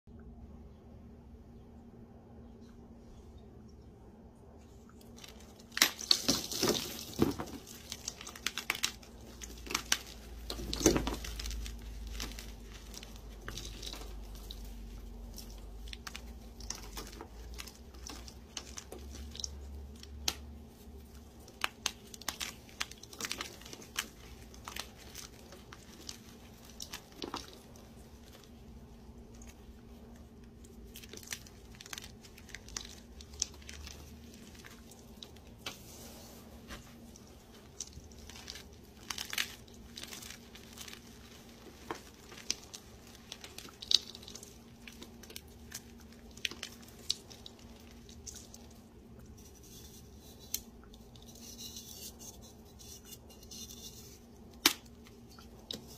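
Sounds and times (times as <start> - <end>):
chalk crumbling and grinding: 5.1 - 55.9
chalk blocks crunching: 5.2 - 55.9.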